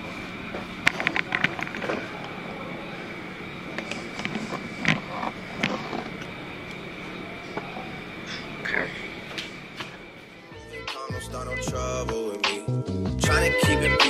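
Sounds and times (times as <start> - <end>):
faint high whine: 0.0 - 12.4
room hum: 0.0 - 14.0.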